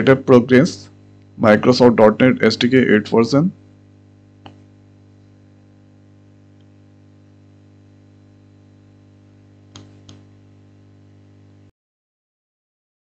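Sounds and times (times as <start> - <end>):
low electrical hum with hiss: 0.0 - 11.7.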